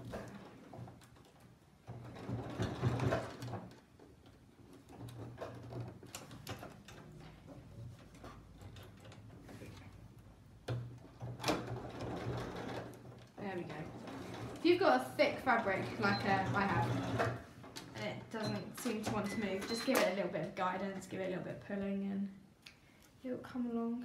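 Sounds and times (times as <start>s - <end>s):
sewing machine stitching: 0.0s - 10.0s, 11.0s - 20.2s.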